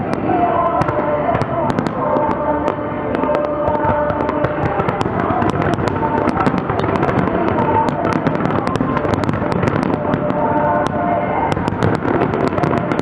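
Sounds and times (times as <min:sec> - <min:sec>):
fireworks crackling and banging: 0:00.0 - 0:13.0
steady wash of noise: 0:00.0 - 0:13.0.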